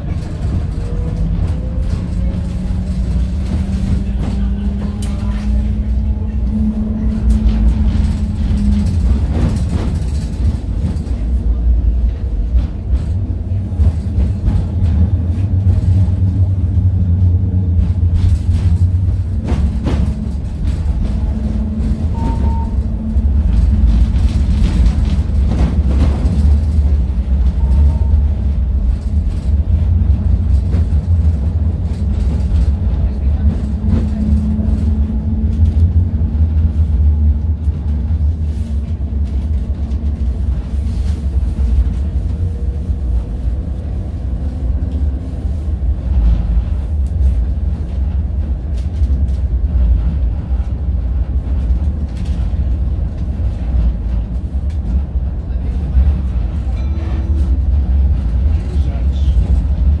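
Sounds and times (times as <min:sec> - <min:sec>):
tram wheels rumbling: 0:00.0 - 1:00.0.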